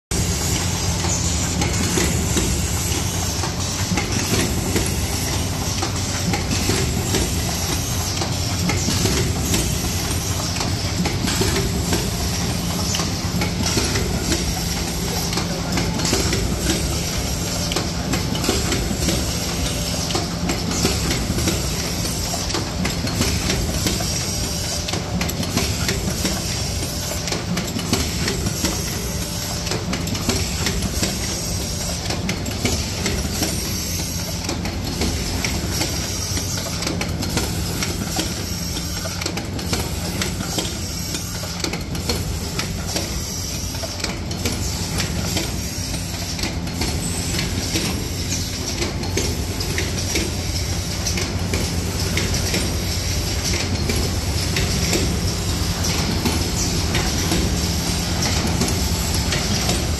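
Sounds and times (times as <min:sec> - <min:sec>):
machine clattering and clacking: 0:00.1 - 0:59.9
steady machine hum: 0:00.1 - 0:59.9.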